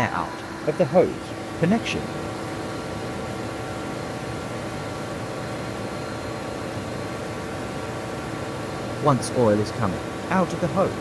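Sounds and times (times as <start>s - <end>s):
ship machinery humming: 0.0s - 11.0s.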